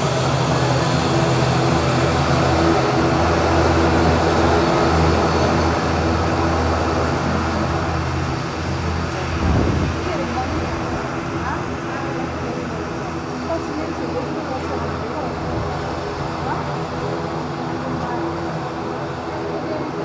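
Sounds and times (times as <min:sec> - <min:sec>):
turboprop engines humming: 0:00.0 - 0:20.0.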